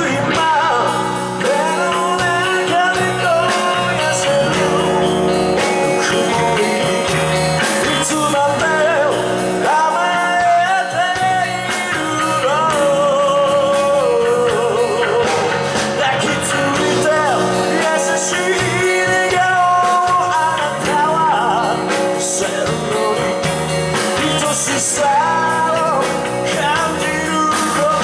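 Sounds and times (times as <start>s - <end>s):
bass guitar: 0.0s - 28.0s
drum kit: 0.0s - 28.0s
electric guitars: 0.0s - 28.0s
lead vocal singing: 0.0s - 28.0s.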